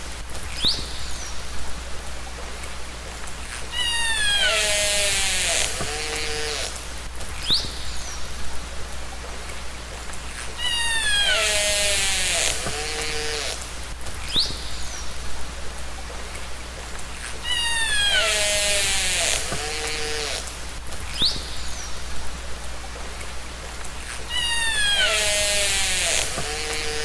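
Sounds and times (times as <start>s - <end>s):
loud hiss: 0.0s - 27.0s.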